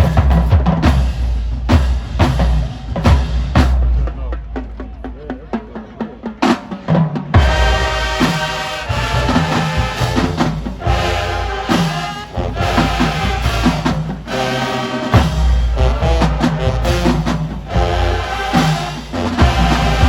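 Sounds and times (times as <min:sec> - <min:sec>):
drums and bass drum: 0:00.0 - 0:20.0
marching band brass chords: 0:00.0 - 0:20.0.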